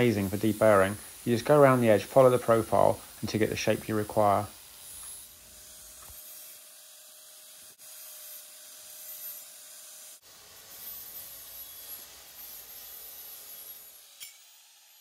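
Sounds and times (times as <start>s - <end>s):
angle grinder sanding metal: 0.0s - 15.0s.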